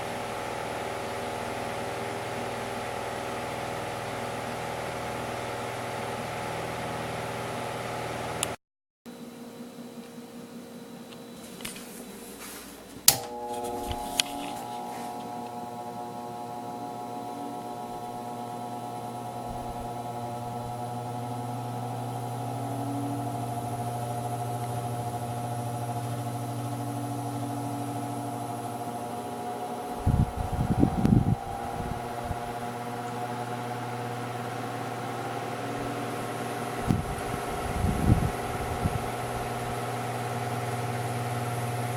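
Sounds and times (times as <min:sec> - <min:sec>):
electric fan motor humming: 0:00.0 - 0:41.9.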